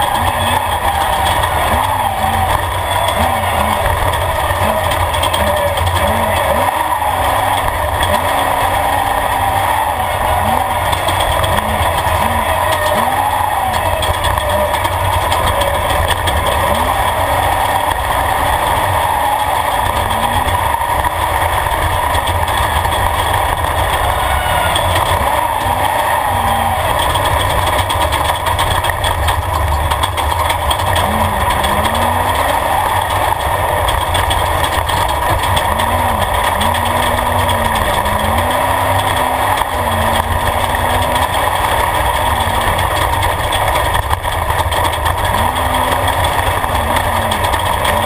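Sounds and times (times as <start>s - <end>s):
low rumble over rough ground: 0.0s - 48.0s
race vehicle engine revving: 0.0s - 48.0s.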